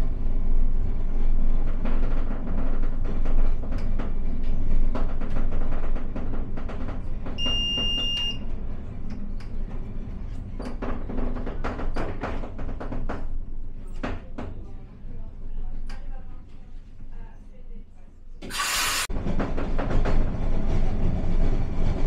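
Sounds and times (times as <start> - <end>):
train rumbling: 0.0 - 15.0, 19.0 - 22.0.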